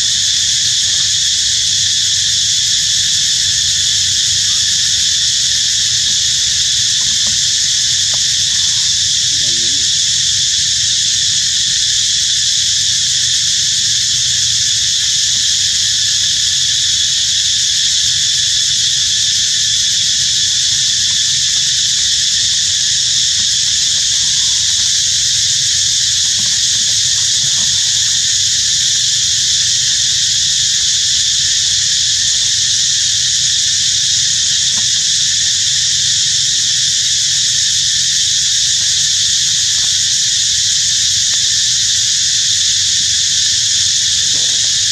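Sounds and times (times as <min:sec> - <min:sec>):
shrill insect chorus: 0:00.0 - 0:44.9.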